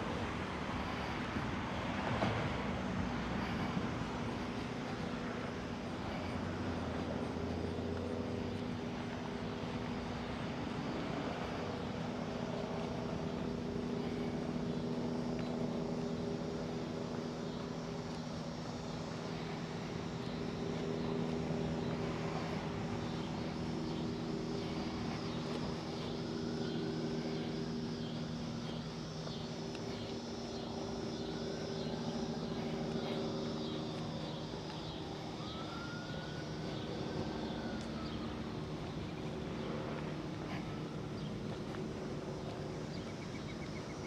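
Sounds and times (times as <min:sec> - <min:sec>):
low mechanical drone: 0:00.0 - 0:44.0
outdoor background noise: 0:00.0 - 0:44.0.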